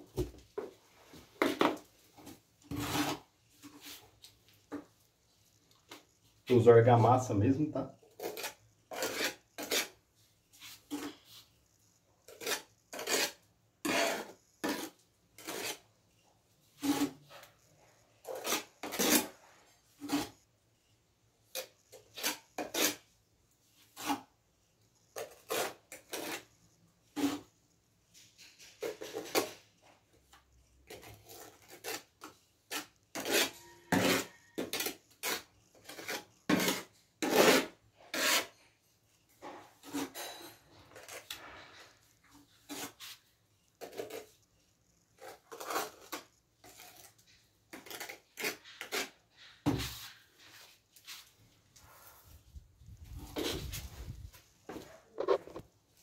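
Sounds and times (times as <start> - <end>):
trowel scraping mortar: 1.4 - 4.8, 7.0 - 15.9, 16.6 - 20.5, 21.5 - 23.1, 23.8 - 24.4, 25.1 - 44.4, 45.1 - 52.4, 53.0 - 55.6.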